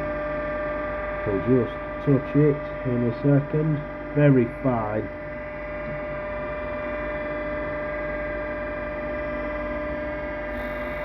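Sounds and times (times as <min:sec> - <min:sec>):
blade grinder humming: 0:00.9 - 0:11.0.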